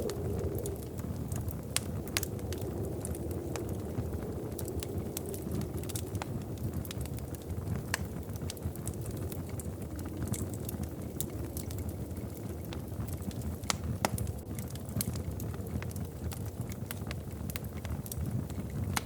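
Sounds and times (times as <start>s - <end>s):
low rumble of fire: 0.0s - 19.0s
wood fire crackling: 0.0s - 19.0s.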